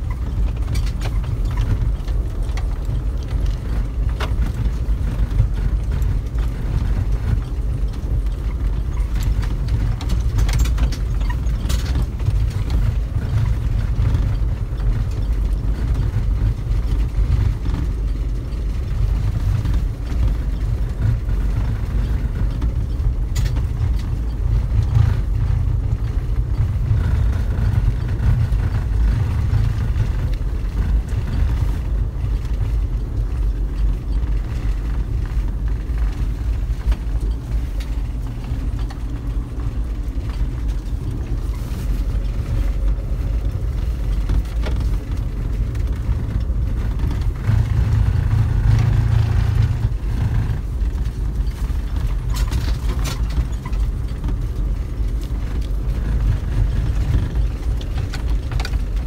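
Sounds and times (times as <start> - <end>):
light clicks and rattles: 0.0 - 59.0
vehicle engine rumbling: 0.0 - 59.0.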